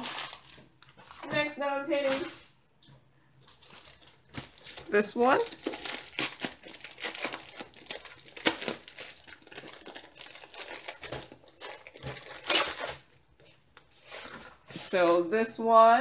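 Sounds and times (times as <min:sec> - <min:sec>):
plastic bag crinkling: 0:00.0 - 0:02.5, 0:03.4 - 0:15.0.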